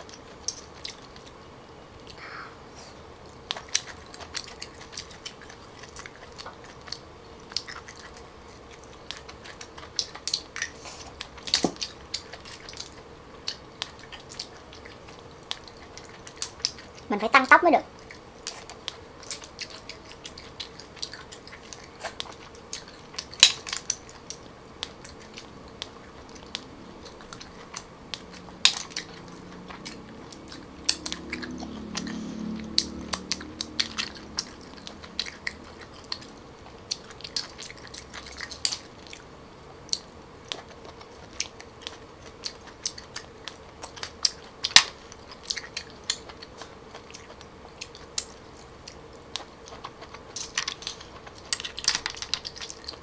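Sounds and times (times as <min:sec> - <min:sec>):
mouth chewing: 0:02.9 - 0:17.2, 0:17.8 - 0:53.0.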